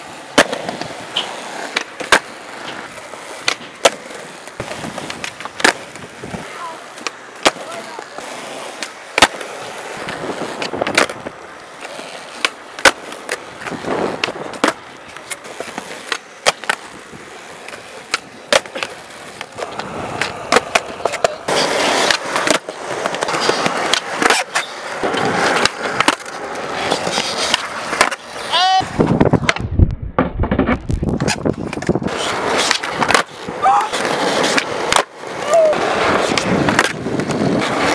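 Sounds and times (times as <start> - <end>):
skateboard tails popping and landing: 0.0 - 37.9
skateboard wheels rolling on concrete: 0.0 - 37.9.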